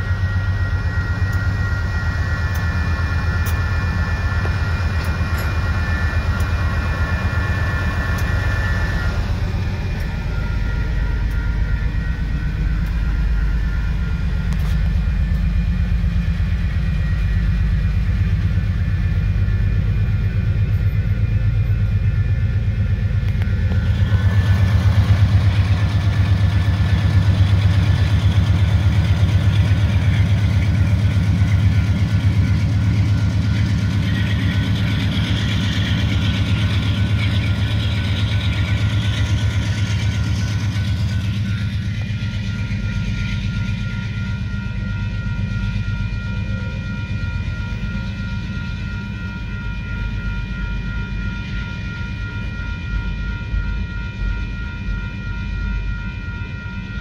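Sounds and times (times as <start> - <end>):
wheels on rails: 0.0 - 21.9, 22.6 - 49.0
crossing signal ringing tone: 0.0 - 57.0
locomotive engine rumble: 0.0 - 57.0.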